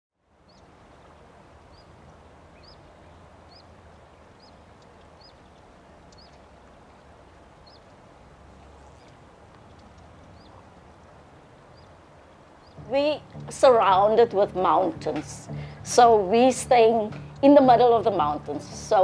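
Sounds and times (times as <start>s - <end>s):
background hiss: 0.2s - 19.0s
bird chirping: 0.4s - 19.0s.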